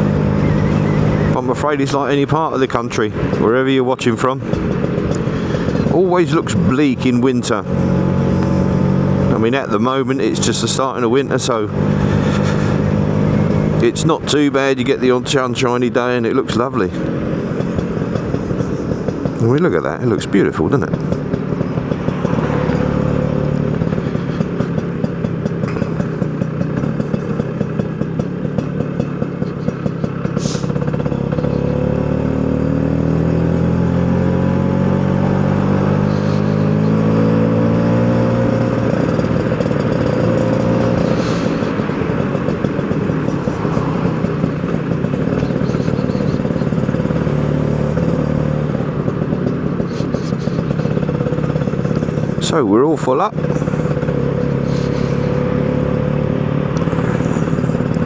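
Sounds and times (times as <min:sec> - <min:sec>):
two-stroke scooter engine: 0:00.0 - 0:58.0.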